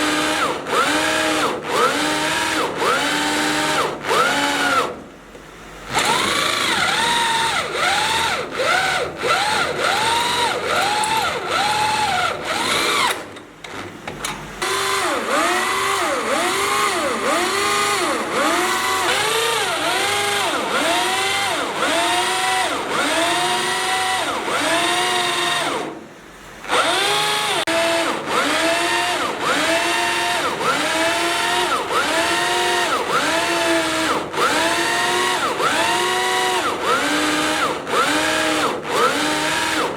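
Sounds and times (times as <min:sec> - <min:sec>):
electric drill boring into steel: 0:00.0 - 0:05.0, 0:05.9 - 0:13.3, 0:14.6 - 0:26.0, 0:26.7 - 0:39.9.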